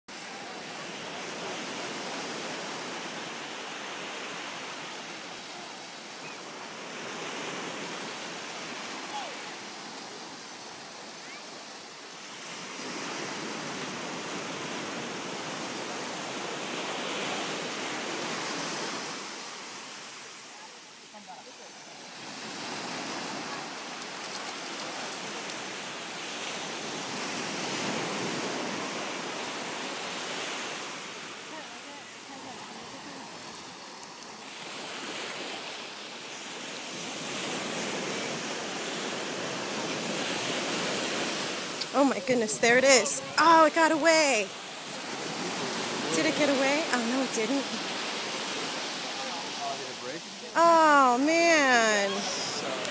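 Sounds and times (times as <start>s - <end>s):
small waves breaking on a beach: 0.1s - 52.9s.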